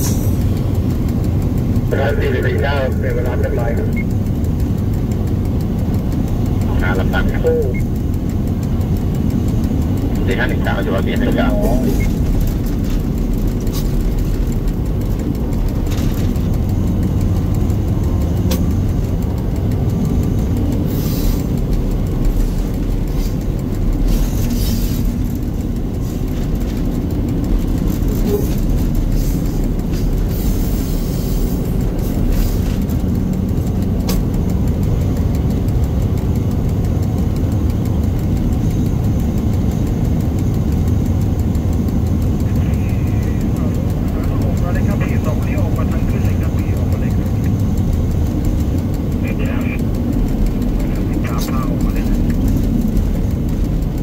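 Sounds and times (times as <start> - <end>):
locomotive engine drone: 0.0 - 54.0
wheels rumbling on rails: 0.0 - 54.0.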